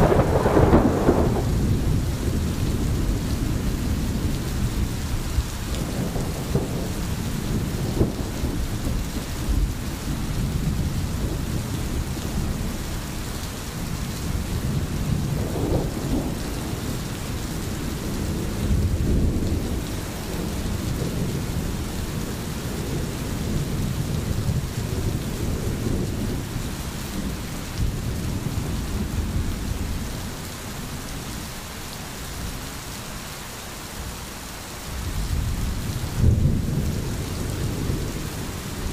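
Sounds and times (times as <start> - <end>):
thunder rumbling: 0.0 - 31.2, 35.0 - 38.9
rain hissing: 0.0 - 38.9.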